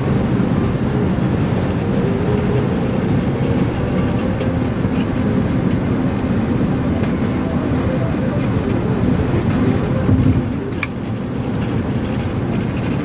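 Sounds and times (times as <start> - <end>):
road and wind noise in car: 0.0 - 13.0.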